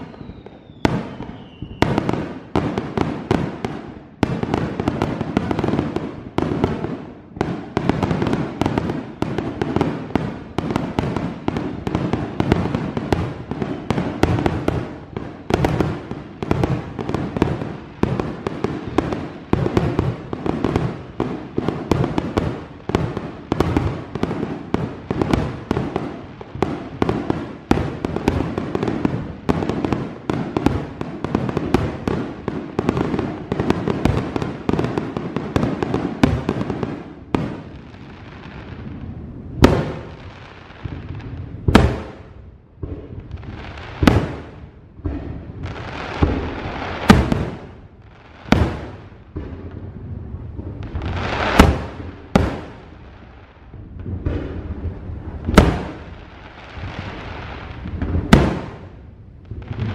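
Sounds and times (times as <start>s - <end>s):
fireworks bangs and crackling: 0.0s - 59.9s
fireworks booms with echo: 0.0s - 59.9s.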